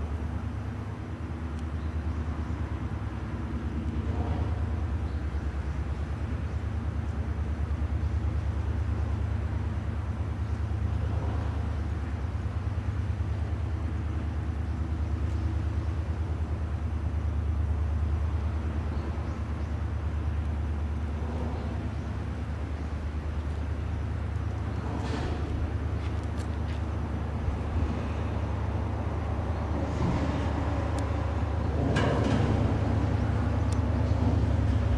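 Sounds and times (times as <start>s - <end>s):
boat engines droning with pulsing beat: 0.0s - 34.9s.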